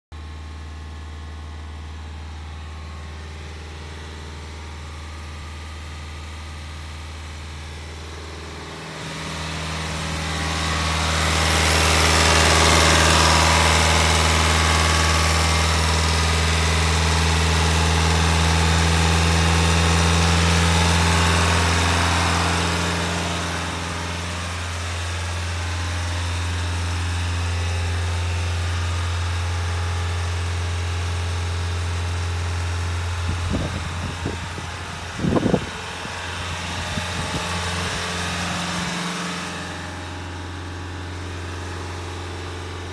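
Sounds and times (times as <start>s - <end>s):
diesel engine running: 0.2s - 42.9s.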